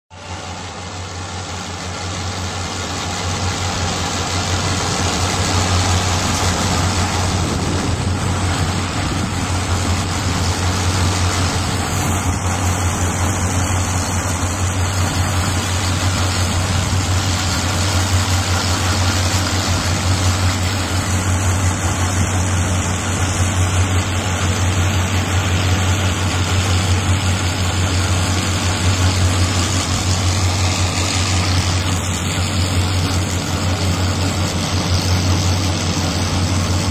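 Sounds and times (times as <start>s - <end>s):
tractor diesel engine running: 0.1s - 36.9s.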